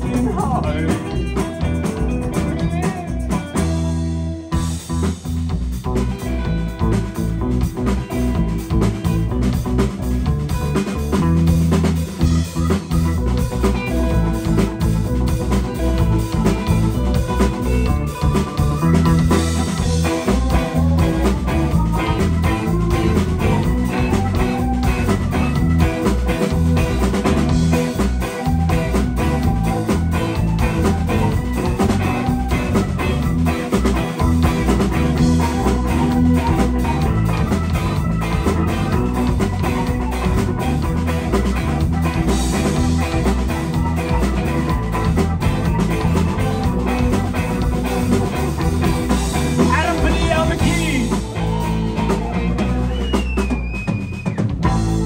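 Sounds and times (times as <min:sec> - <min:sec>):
drum kit beat: 0:00.0 - 0:55.0
electric guitar: 0:00.0 - 0:55.0
rock band playing: 0:00.0 - 0:55.0.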